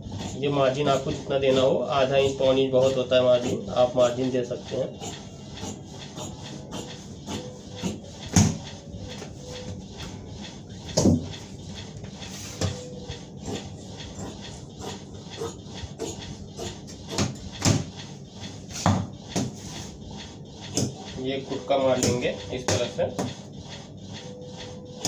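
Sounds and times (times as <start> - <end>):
shears snipping fabric: 0.1 - 25.0.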